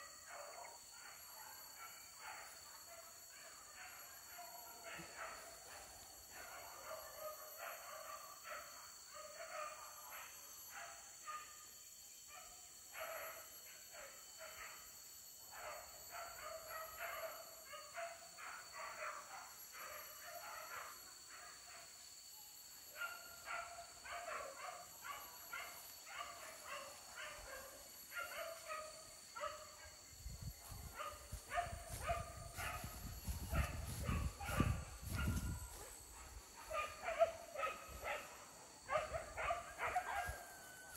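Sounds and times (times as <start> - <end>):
dogs barking and yelping: 0.0 - 11.5, 15.5 - 22.0, 22.8 - 40.9.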